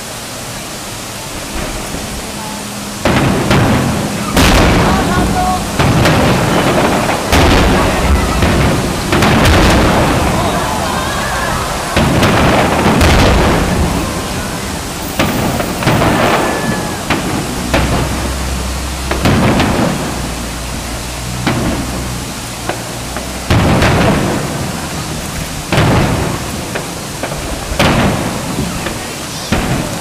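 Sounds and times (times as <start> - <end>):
firework shells booming: 1.2 - 30.0.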